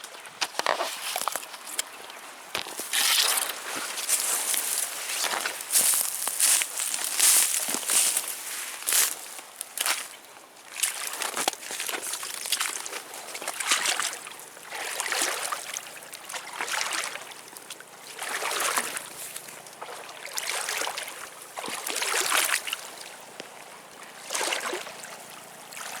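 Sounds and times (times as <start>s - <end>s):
water sloshing and splashing: 0.2s - 26.0s.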